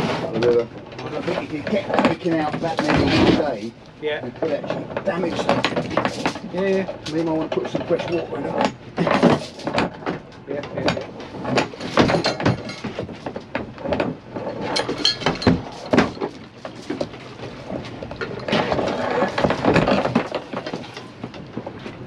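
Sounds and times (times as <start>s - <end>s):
gear knocking and clattering: 0.0s - 22.0s.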